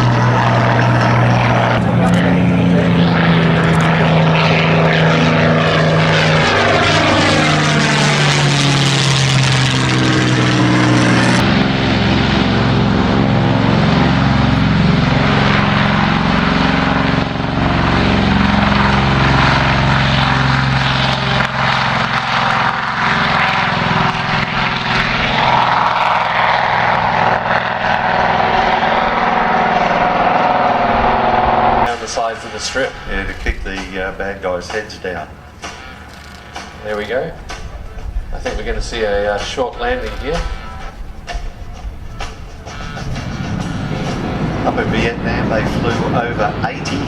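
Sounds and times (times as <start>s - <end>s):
propeller aircraft engines: 0.0s - 47.0s.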